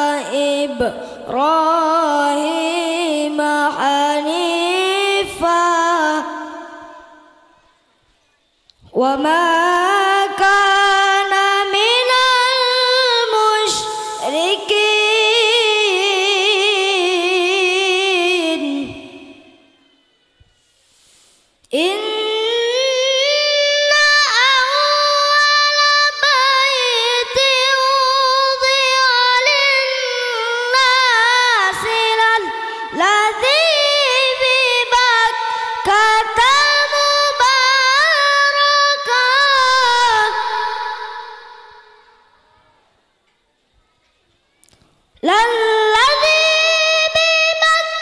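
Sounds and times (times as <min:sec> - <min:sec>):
child reciting melodically: 0:00.0 - 0:07.7, 0:08.9 - 0:19.0, 0:21.8 - 0:41.8, 0:43.8 - 0:48.0.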